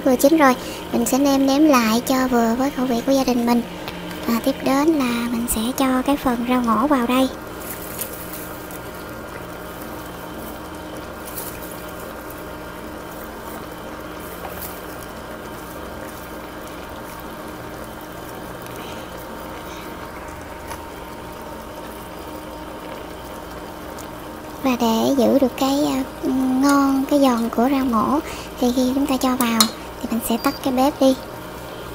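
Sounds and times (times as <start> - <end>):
faint steady hum: 0.0 - 31.9
liquid simmering in a pot: 0.0 - 31.9.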